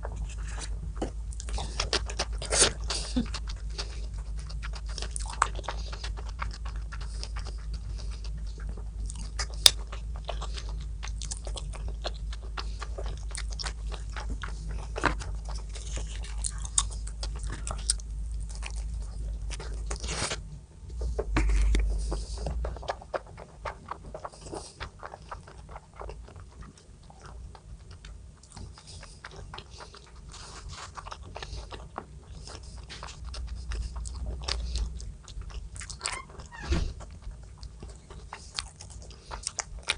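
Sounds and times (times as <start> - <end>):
person chewing crunchy food: 0.0 - 39.9
steady low hum: 0.0 - 39.9.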